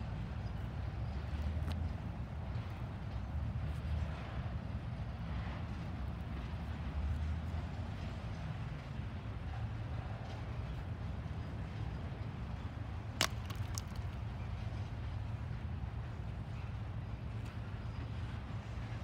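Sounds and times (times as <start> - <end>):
freight train wheels rumbling on rails: 0.0 - 13.4, 14.0 - 19.0.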